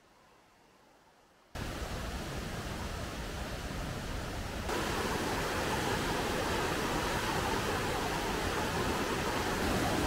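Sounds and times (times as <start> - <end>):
stream rushing over rocks: 1.6 - 10.0.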